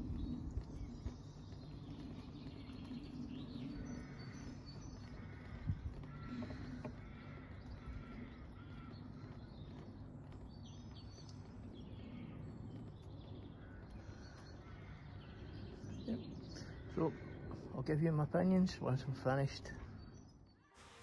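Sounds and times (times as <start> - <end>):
low background rumble: 0.0 - 20.5
birds chirping and calling: 0.0 - 20.8.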